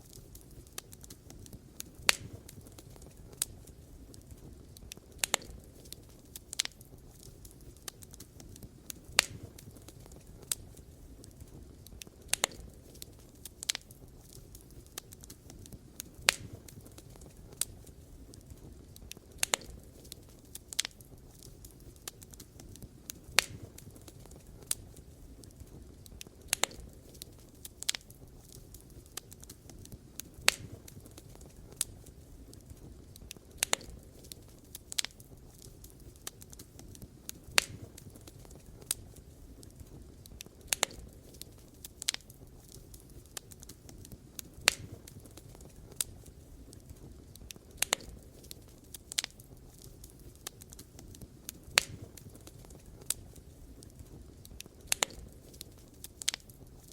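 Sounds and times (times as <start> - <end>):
low rumble of flames: 0.0 - 56.9
wood crackling and popping: 0.0 - 56.9.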